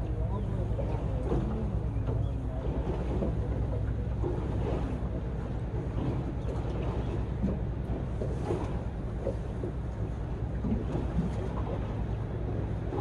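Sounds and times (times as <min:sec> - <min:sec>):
boat engine idling: 0:00.0 - 0:13.0
sea around hull: 0:00.0 - 0:13.0.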